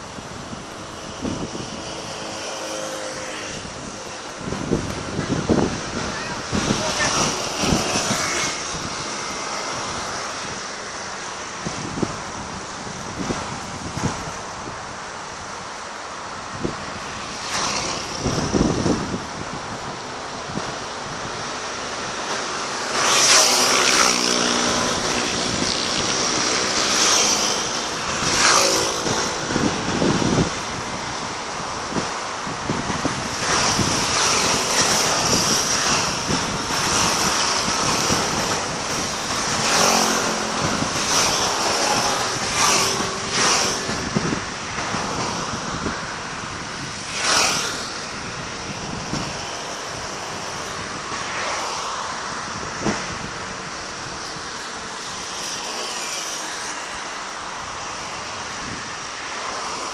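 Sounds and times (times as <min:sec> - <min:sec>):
steady noisy backdrop: 0:00.0 - 0:59.9.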